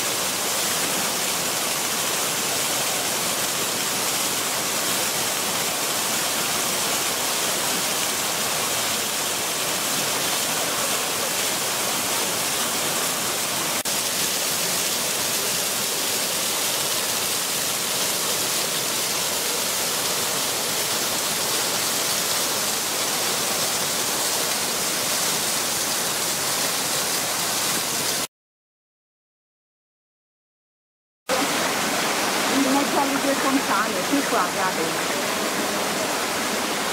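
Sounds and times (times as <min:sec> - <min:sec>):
fountain water rushing into basins: 0:00.0 - 0:28.3, 0:31.3 - 0:36.9.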